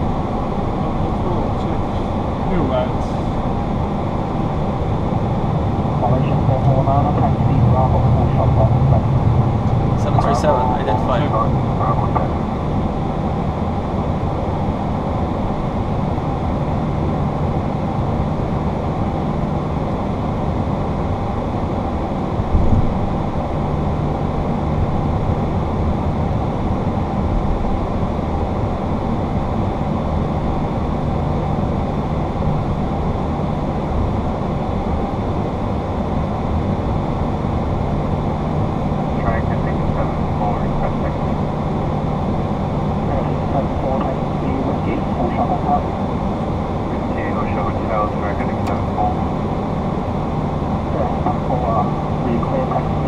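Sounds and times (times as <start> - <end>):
aircraft engines idling: 0.0 - 53.0.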